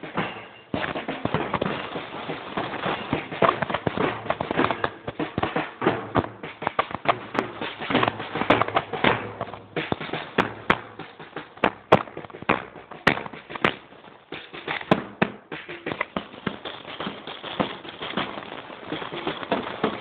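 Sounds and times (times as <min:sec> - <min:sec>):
marching drum hits: 0:00.0 - 0:20.0.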